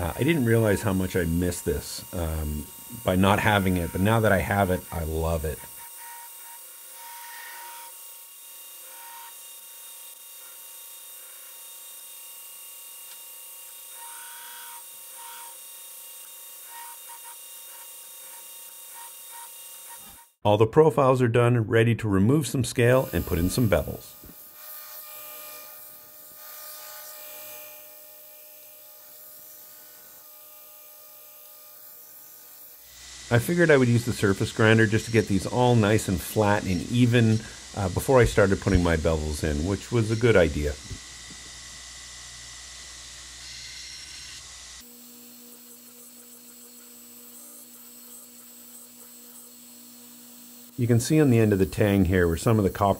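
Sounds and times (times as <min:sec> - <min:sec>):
belt grinder grinding steel: 0:00.0 - 0:20.4, 0:22.8 - 0:52.9.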